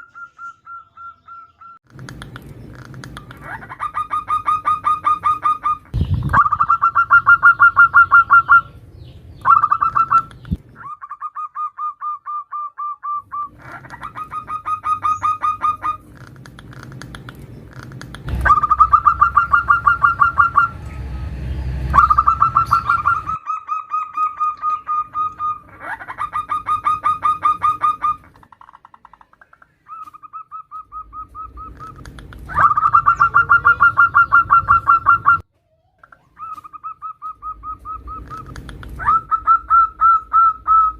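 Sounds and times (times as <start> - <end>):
dove trilling calls: 0.0 - 21.0, 21.9 - 40.9.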